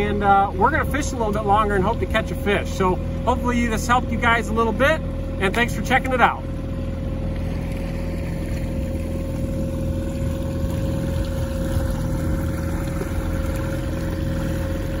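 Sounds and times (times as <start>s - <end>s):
outboard motor running: 0.0s - 15.0s
propeller wash churning: 0.0s - 15.0s.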